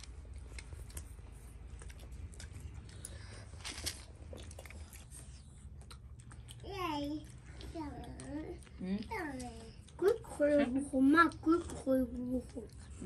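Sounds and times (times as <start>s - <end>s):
low steady hum: 0.0s - 13.0s
people chewing: 0.0s - 13.0s.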